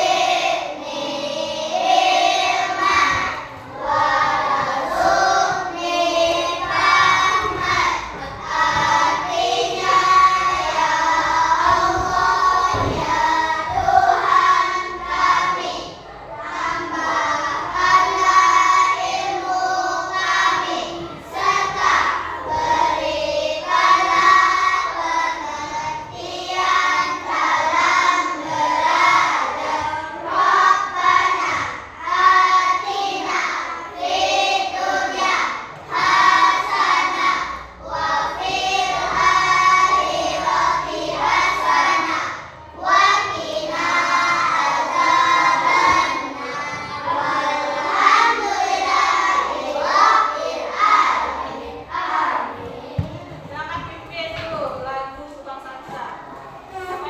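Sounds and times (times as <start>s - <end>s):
children singing: 0.0s - 53.5s.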